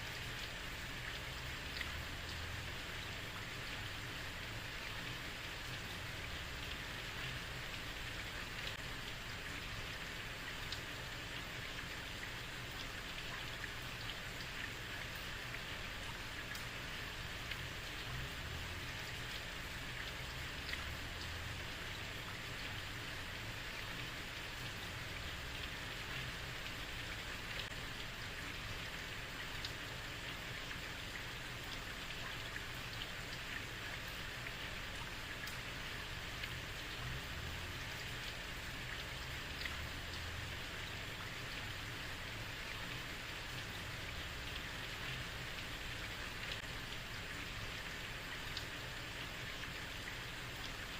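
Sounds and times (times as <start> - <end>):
heavy rain on a street: 0.0 - 50.9.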